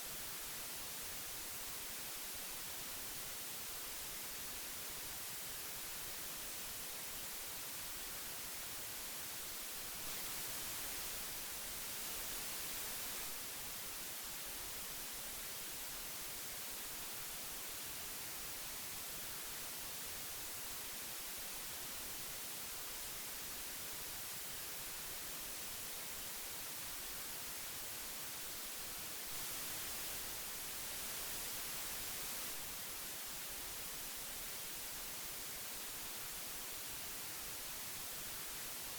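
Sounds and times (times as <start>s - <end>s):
tape hiss: 0.0s - 38.9s.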